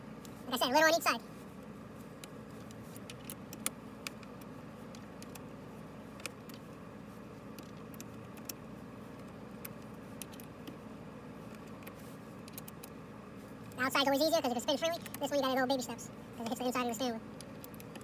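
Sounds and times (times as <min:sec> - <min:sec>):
low hum inside car: 0:00.0 - 0:18.0.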